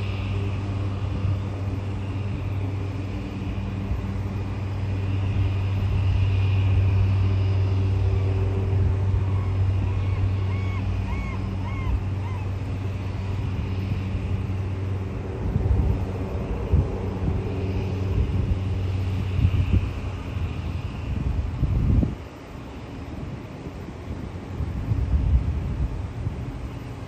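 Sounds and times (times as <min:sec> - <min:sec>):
floatplane propeller engine hum: 0:00.0 - 0:27.0.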